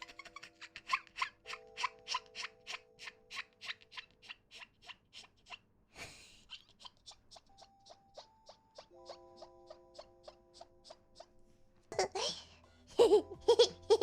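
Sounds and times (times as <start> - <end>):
soft background music: 0.0 - 4.4, 7.0 - 14.0
squeaky mouth noises: 0.0 - 5.7, 6.3 - 13.4.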